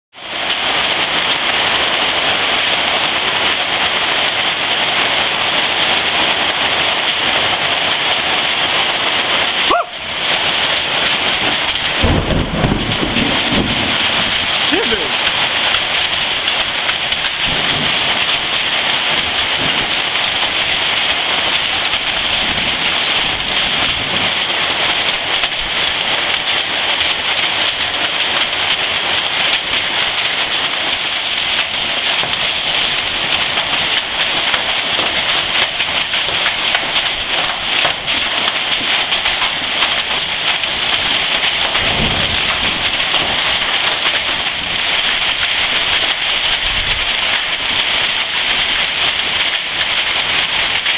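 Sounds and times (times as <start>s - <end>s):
hailstones pelting down: 0.2s - 50.9s.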